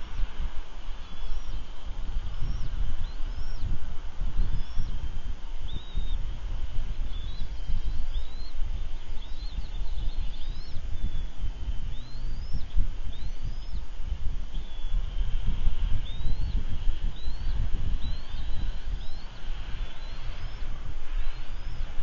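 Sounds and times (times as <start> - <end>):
eagle chicks peeping: 0.0 - 22.0
low microphone rumble: 0.0 - 22.0.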